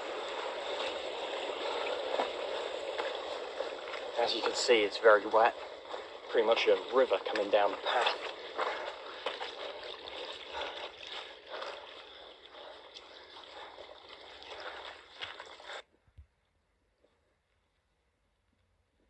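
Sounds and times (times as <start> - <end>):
rainwater running down rocky path: 0.0 - 15.8
water splashing: 0.0 - 15.8.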